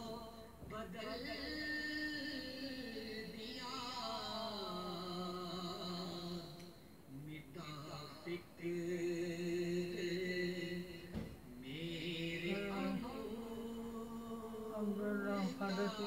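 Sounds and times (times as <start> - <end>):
person chanting slowly: 0.0 - 16.0.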